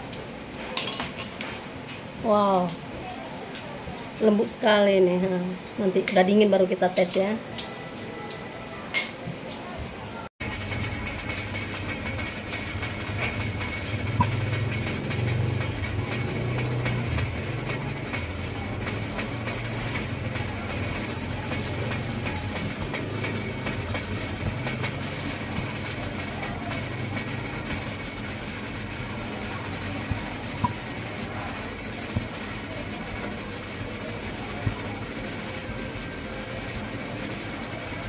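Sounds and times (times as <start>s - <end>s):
gas flame and boiling water: 0.0s - 38.0s.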